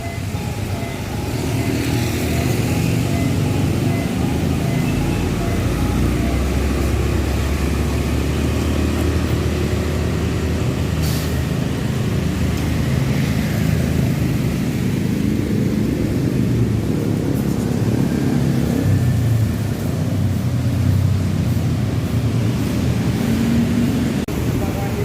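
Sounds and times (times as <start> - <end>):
bus engine rumbling: 0.0 - 25.0
road traffic: 0.0 - 25.0.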